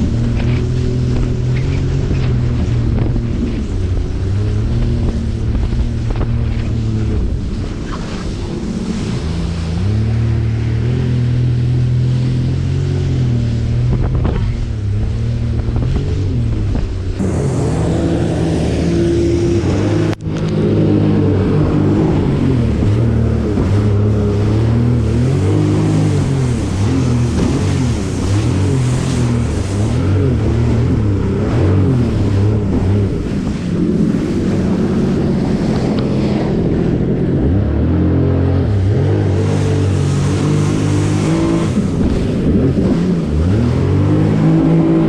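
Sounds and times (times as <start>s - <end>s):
jet ski engine running: 0.0s - 45.0s
water splashes: 0.0s - 45.0s
wind buffeting microphone: 0.0s - 45.0s.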